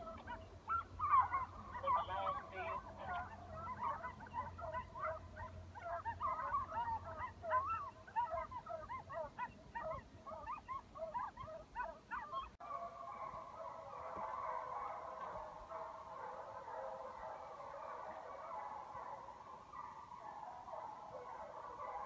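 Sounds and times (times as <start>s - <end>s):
hounds yelping and bawling: 0.0s - 22.0s.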